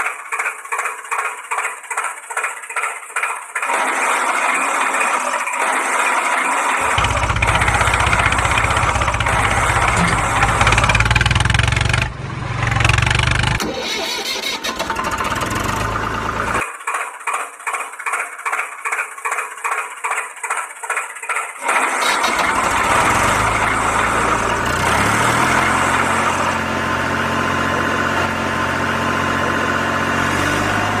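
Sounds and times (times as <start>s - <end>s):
tractor engine chugging and revving: 0.0s - 31.0s.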